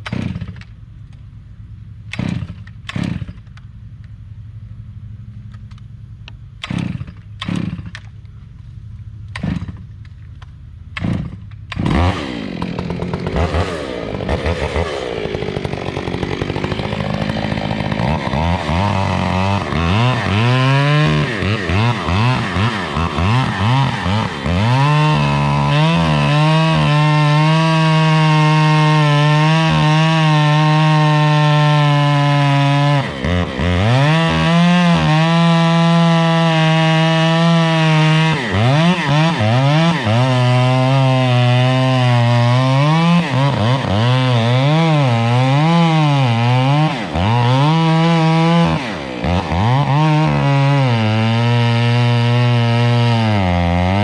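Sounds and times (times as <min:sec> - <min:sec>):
chainsaw cutting wood: 0:00.0 - 0:00.8, 0:02.1 - 0:03.6, 0:06.6 - 0:08.2, 0:09.3 - 0:10.1, 0:10.9 - 0:54.0.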